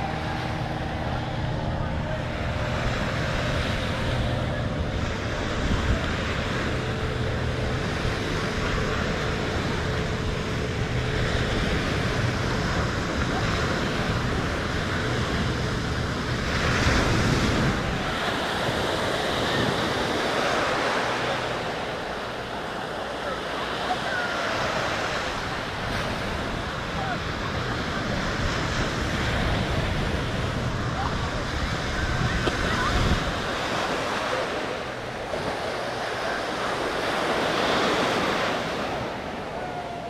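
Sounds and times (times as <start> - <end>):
ocean surf washing: 0.0 - 40.0
wind rumbling on microphone: 0.0 - 40.0.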